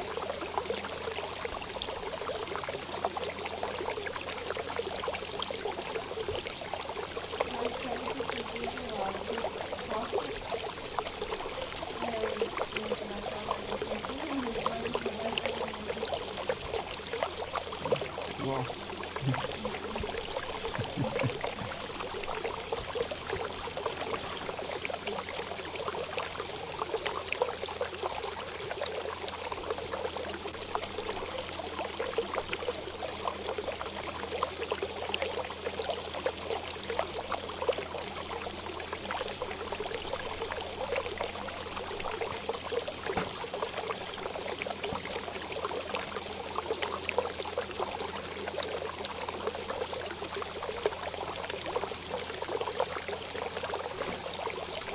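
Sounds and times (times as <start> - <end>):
running water trickling: 0.0 - 54.9.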